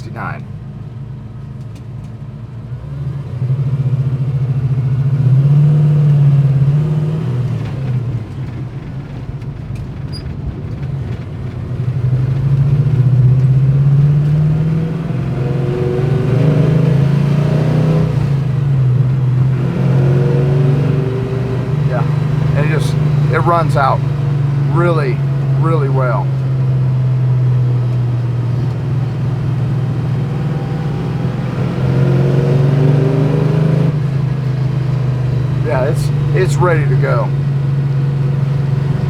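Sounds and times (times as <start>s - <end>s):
car engine accelerating: 2.6s - 39.0s.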